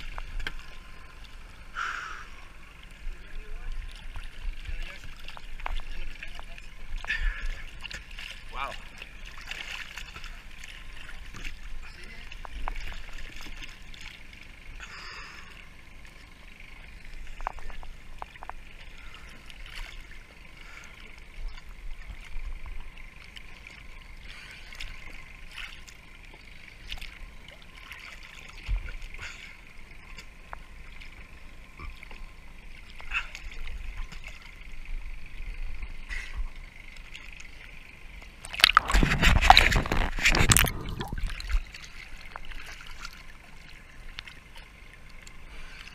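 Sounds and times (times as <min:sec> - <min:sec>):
small splashes and clicks: 0:00.0 - 0:01.5, 0:02.8 - 0:34.9, 0:35.8 - 0:45.9
sea water sloshing: 0:00.0 - 0:45.9.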